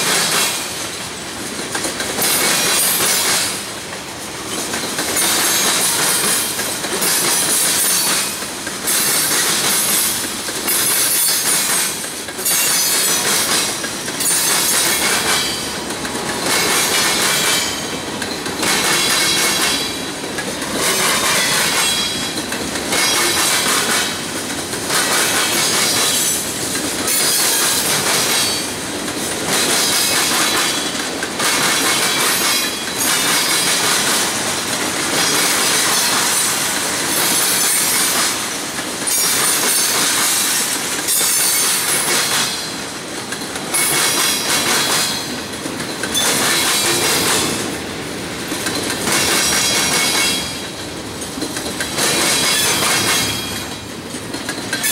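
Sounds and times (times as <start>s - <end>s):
train wheels clattering over rails: 0.0s - 54.9s.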